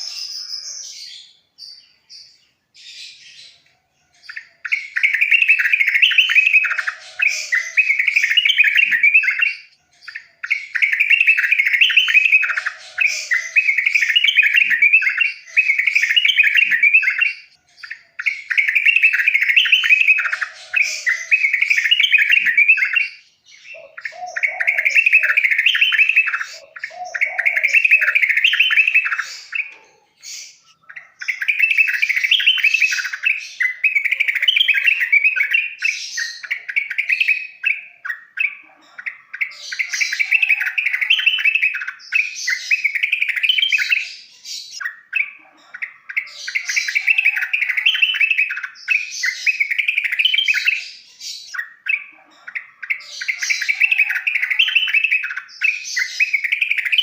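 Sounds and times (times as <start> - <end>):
bird singing bubbly chatter: 0.0 - 57.0.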